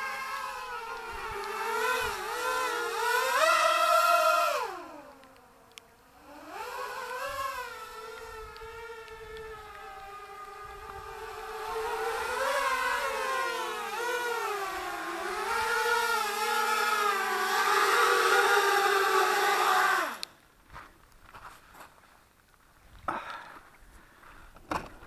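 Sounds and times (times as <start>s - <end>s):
drone motors whining: 0.0s - 20.4s.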